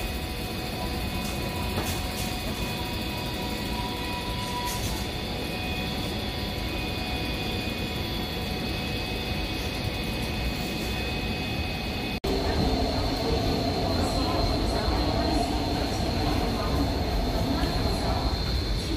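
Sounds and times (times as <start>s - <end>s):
electric train rumbling: 0.0s - 18.9s.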